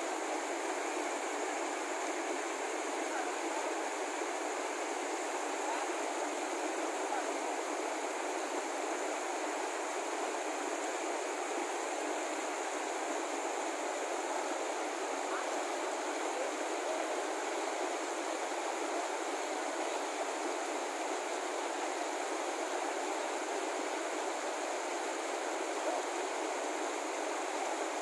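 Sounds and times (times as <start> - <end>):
stream rushing over rocks: 0.0 - 28.0.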